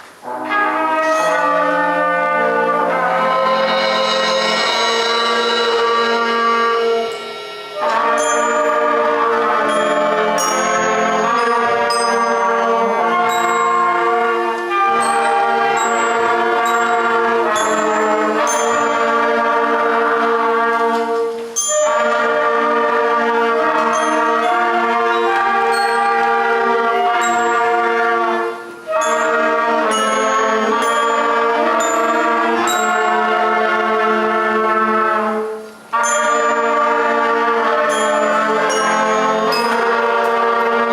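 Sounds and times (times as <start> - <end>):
school concert band playing: 0.0 - 40.9.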